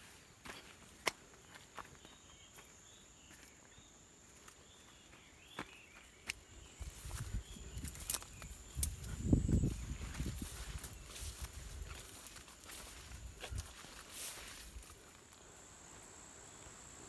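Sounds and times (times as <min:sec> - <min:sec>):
footsteps rustling through plants: 0:00.0 - 0:16.2
insects trilling: 0:00.0 - 0:17.0
insect clicks and chirps: 0:01.0 - 0:17.0.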